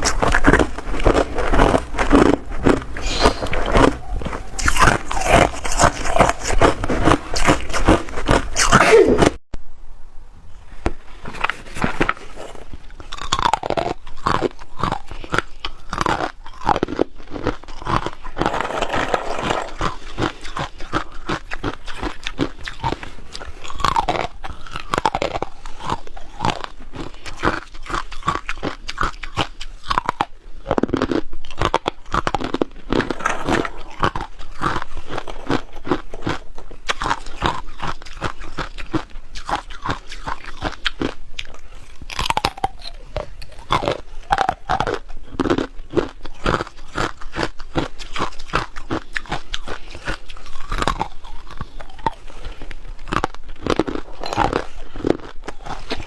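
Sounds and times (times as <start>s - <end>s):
ice being crunched and chewed: 0.0s - 9.4s, 11.3s - 56.0s.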